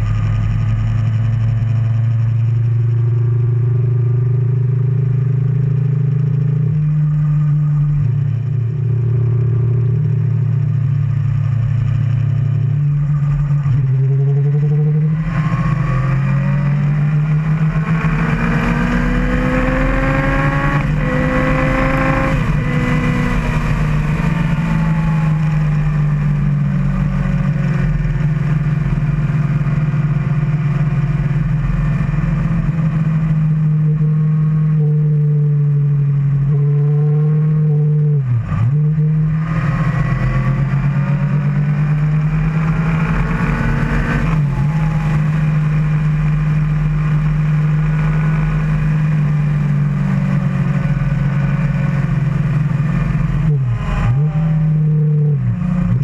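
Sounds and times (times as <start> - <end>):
motorcycle engine running hard: 0.0 - 56.0
road rumble: 0.0 - 56.0
wind: 0.0 - 56.0.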